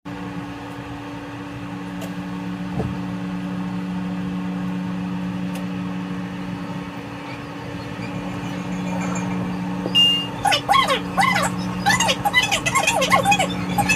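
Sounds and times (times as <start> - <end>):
train hum inside car: 0.1 - 13.9.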